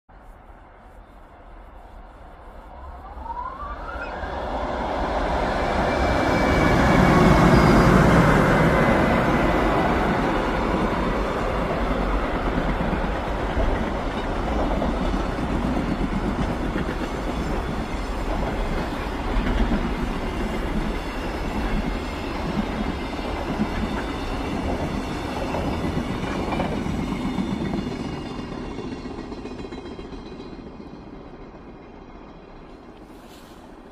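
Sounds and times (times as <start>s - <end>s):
steel wheels rumbling on rail: 3.8s - 33.9s.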